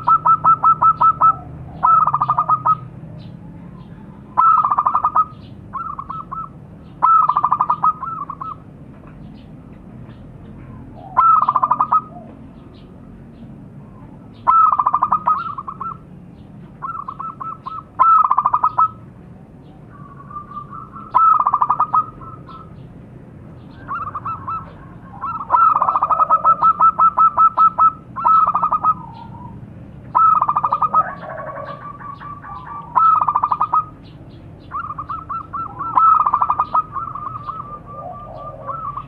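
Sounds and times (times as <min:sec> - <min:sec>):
dove cooing: 0:00.0 - 0:08.7, 0:10.7 - 0:12.8, 0:13.9 - 0:16.1, 0:16.8 - 0:19.1, 0:19.7 - 0:22.9, 0:23.6 - 0:39.0.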